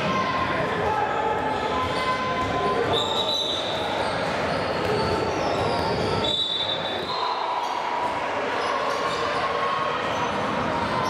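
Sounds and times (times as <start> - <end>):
crowd and court noise: 0.0 - 11.0.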